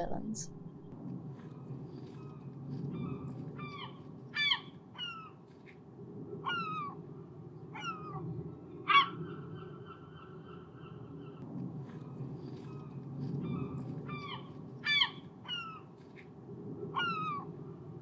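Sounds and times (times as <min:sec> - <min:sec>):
low background rumble: 0:00.0 - 0:18.0
gulls calling: 0:01.4 - 0:05.8, 0:06.4 - 0:16.2, 0:16.9 - 0:17.8.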